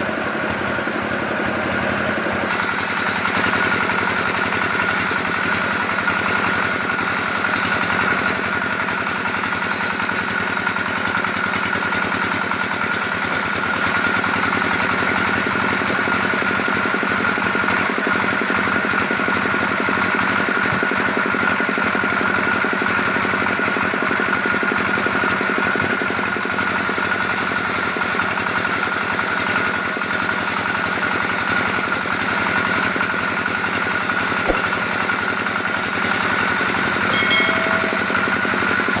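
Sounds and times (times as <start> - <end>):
chainsaw cutting a log: 1.5 - 39.0.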